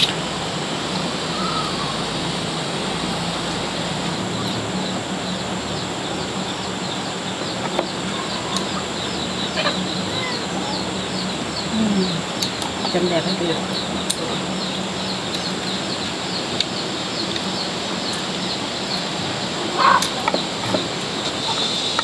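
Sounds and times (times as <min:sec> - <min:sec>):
birds chirping: 0:00.0 - 0:22.0
faint drawn-out bird calls: 0:01.2 - 0:02.3, 0:03.2 - 0:22.0.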